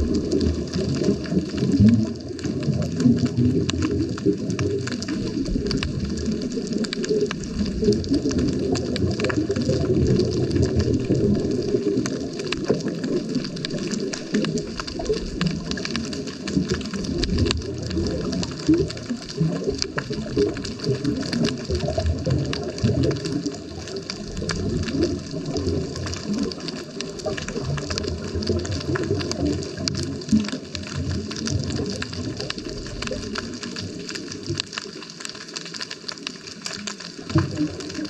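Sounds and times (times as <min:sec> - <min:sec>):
faint underwater clicks: 0:00.0 - 0:38.0
muffled underwater churning rumble: 0:00.0 - 0:38.0.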